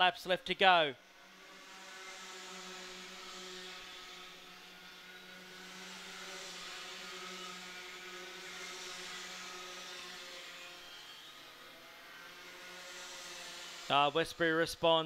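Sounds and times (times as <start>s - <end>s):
kart engines buzzing: 1.0s - 15.0s.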